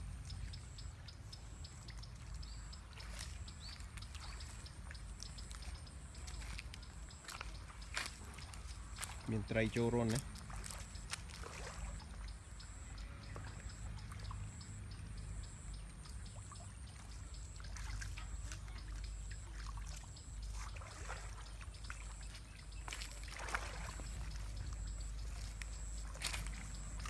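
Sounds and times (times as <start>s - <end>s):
pond water splashing: 0.0s - 27.0s.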